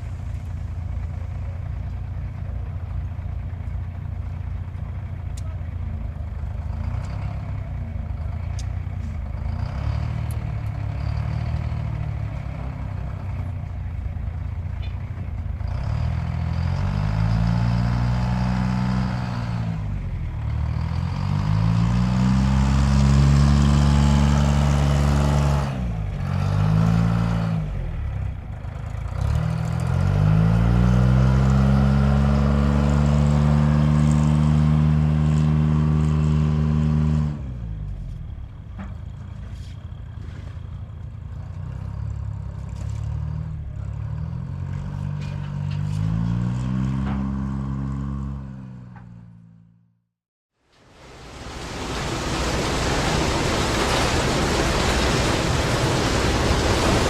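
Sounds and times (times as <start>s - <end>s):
car engine idling and revving: 0.0s - 50.1s.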